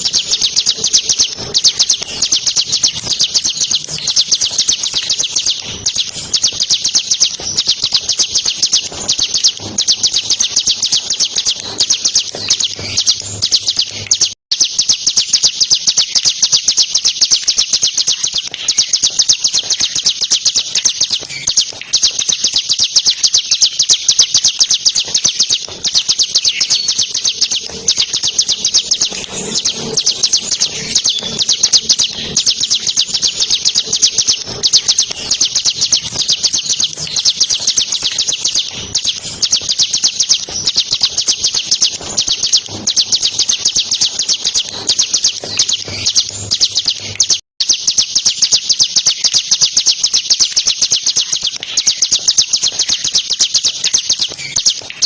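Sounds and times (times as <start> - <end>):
bird singing fast high notes: 0.0 - 55.0.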